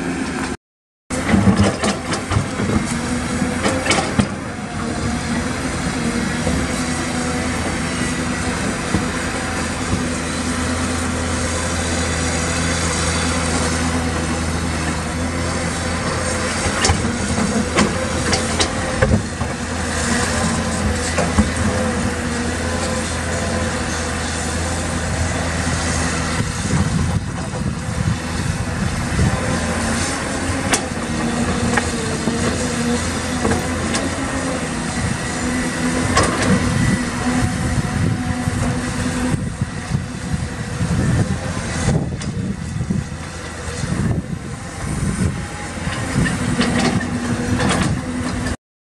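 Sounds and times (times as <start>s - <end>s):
excavator diesel engine running: 0.0s - 48.6s.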